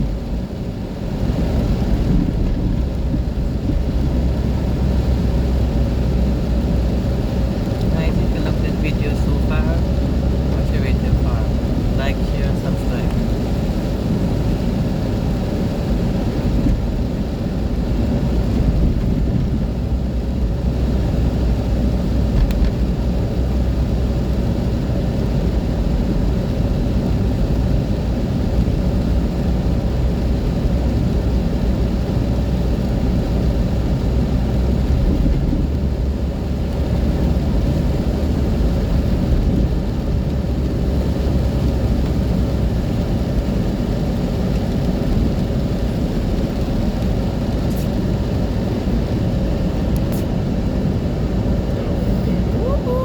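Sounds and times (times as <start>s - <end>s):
car engine and tyre rumble: 0.0s - 53.0s
rain: 0.0s - 53.0s.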